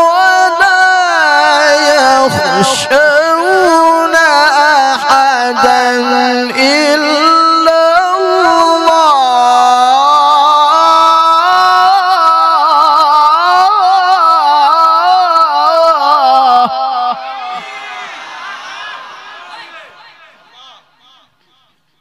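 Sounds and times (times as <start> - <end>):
man reciting melodically into microphone: 0.0 - 17.6, 19.5 - 22.0.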